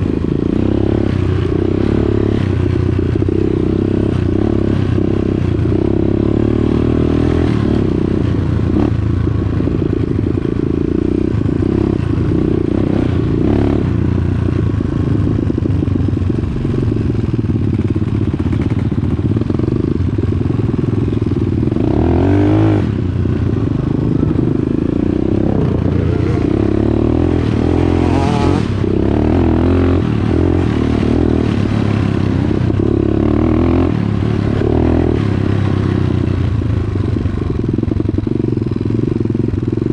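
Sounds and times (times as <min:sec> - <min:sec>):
dirt bike engine revving: 0:00.0 - 0:36.5.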